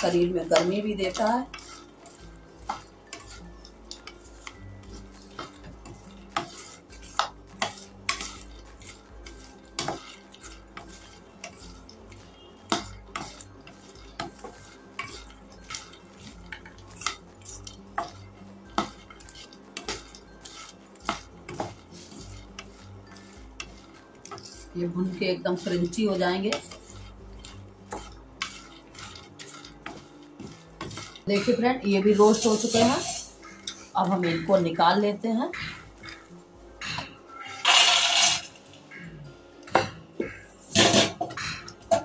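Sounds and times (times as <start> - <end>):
spatula scraping a pan: 0.0 - 39.0, 39.6 - 42.0.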